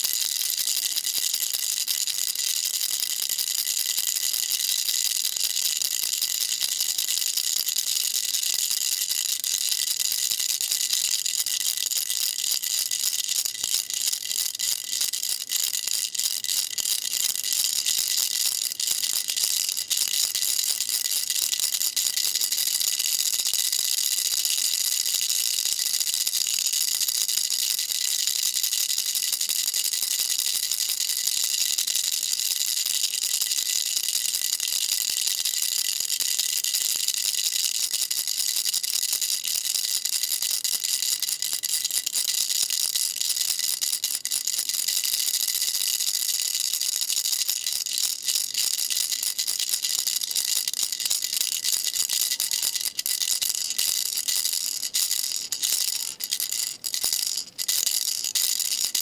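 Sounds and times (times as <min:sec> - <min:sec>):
baby rattle shaking: 0:00.0 - 0:59.0.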